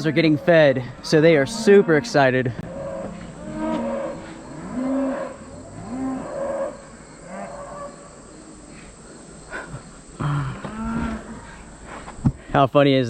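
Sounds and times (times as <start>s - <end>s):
cattle mooing and bellowing: 0.0s - 8.9s, 10.2s - 11.8s.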